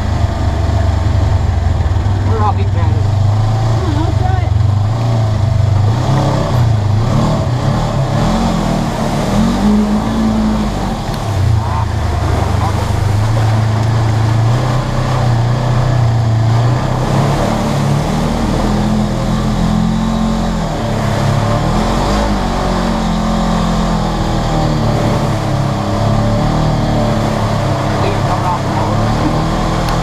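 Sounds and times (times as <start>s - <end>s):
engine running under load: 0.0s - 30.0s.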